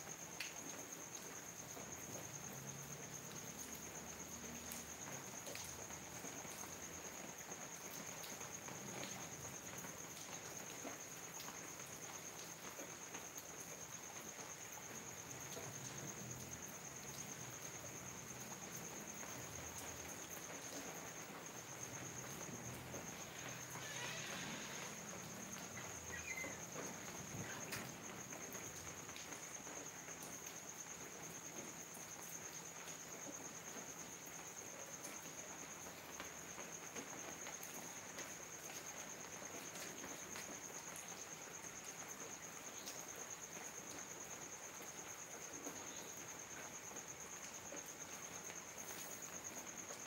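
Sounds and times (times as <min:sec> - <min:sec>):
rain falling: 0:00.0 - 0:50.0
high-pitched insect trill: 0:00.1 - 0:50.0.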